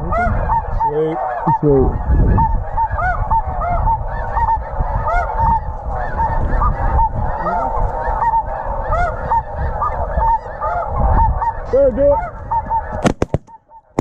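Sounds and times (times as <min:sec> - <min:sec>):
geese honking chorus: 0:00.0 - 0:14.0
wind rumble on microphone: 0:00.0 - 0:14.0.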